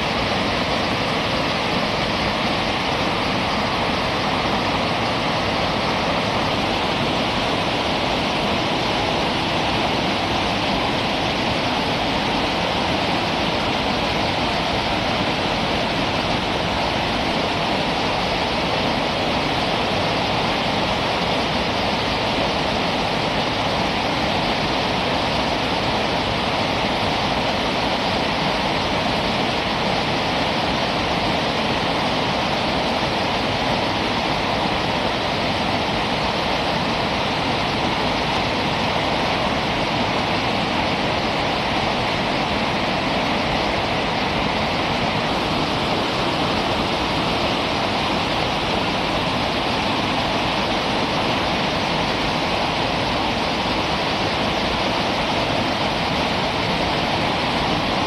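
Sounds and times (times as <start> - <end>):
river rapids rushing: 0.0 - 58.0.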